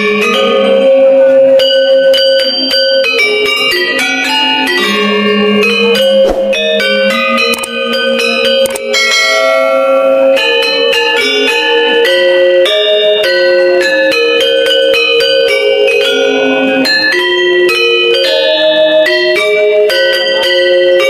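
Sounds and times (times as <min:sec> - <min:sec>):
metallophones ringing interlocking notes: 0:00.0 - 0:21.0.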